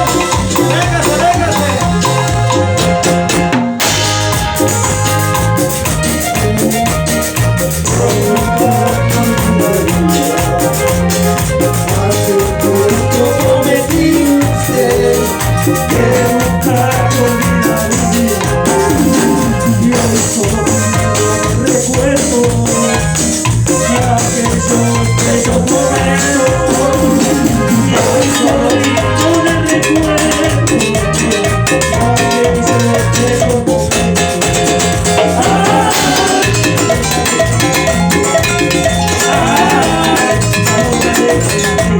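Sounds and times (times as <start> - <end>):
cumbia-style band music: 0.0 - 41.9.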